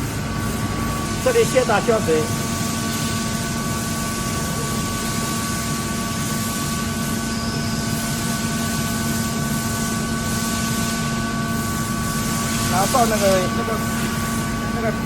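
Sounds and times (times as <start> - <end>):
machine drone with low hum: 0.0 - 15.0.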